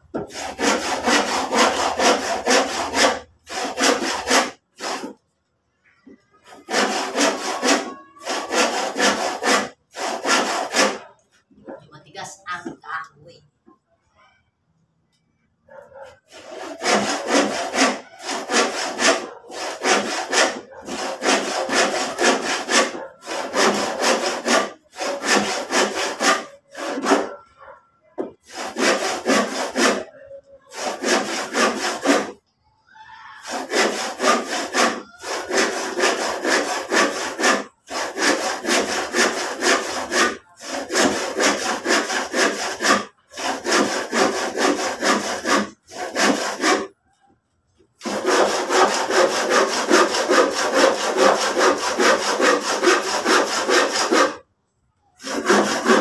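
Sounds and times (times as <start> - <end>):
hand saw cutting wood: 0.1 - 5.3, 6.4 - 12.8, 15.9 - 27.4, 28.2 - 32.4, 33.4 - 46.9, 48.0 - 54.4, 55.2 - 56.0.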